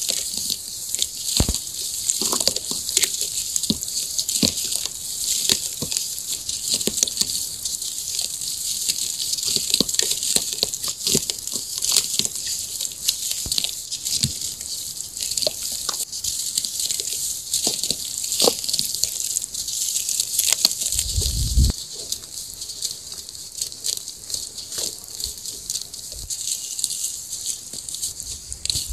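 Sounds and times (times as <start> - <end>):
cement lumps crunching: 0.0 - 28.9.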